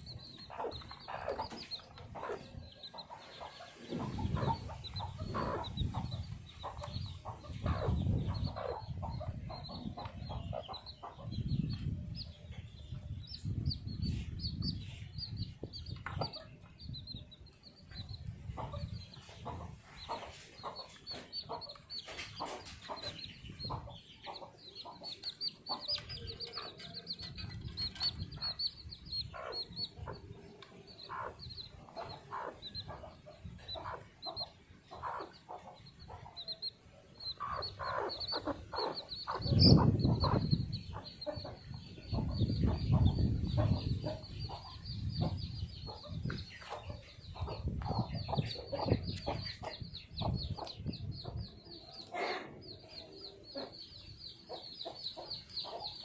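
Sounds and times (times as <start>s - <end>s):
baby chicks peeping: 0.0s - 56.0s
chicken calls: 0.0s - 56.0s.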